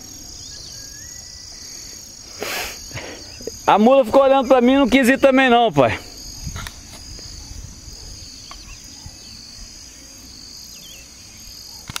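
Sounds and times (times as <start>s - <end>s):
faint bird chirps: 0.0s - 3.8s, 6.1s - 12.0s
insects droning: 0.0s - 12.0s.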